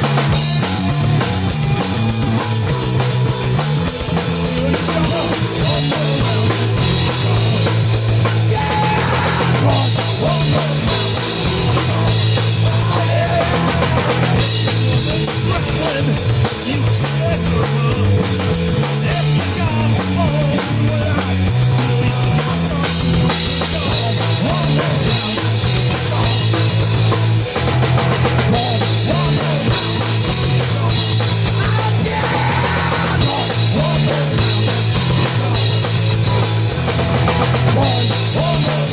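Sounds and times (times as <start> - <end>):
bass line: 0.0 - 38.9
driving drum kit: 0.0 - 38.9
live rock band playing: 0.0 - 38.9.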